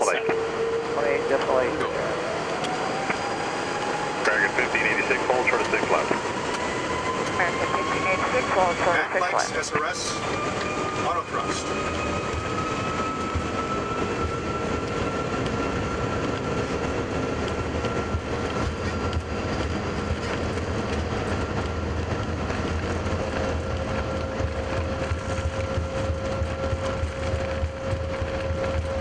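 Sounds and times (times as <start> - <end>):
jet engines at takeoff thrust: 0.0 - 29.0
wheels rumbling on runway: 0.0 - 29.0.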